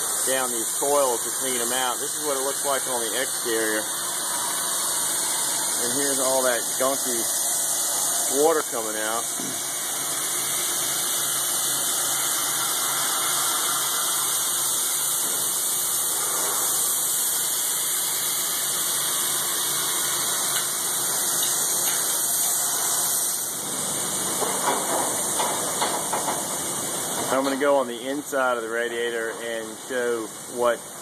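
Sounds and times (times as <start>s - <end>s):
water rushing through radiator: 0.0s - 31.0s.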